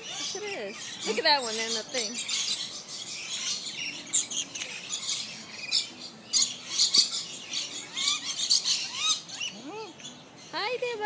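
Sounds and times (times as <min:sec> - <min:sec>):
lorikeets chattering and screeching: 0:00.0 - 0:11.0.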